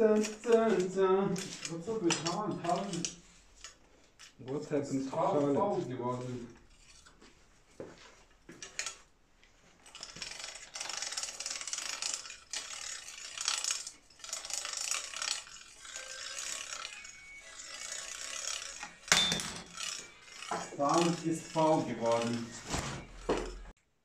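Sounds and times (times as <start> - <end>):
freewheel ratcheting clicks: 0.0 - 7.1, 9.8 - 22.6
bicycle chain running: 0.0 - 7.4, 8.5 - 9.1, 9.7 - 23.7.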